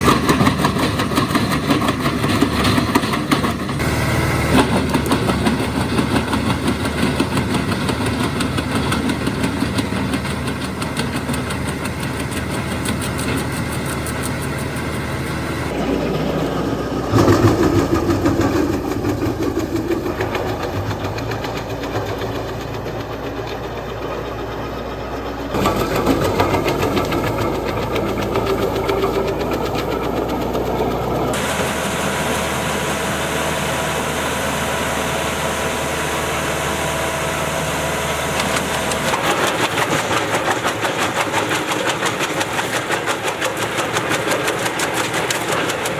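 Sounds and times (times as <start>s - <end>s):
tractor diesel engine running: 0.0s - 45.9s
wood chipper: 0.0s - 45.9s.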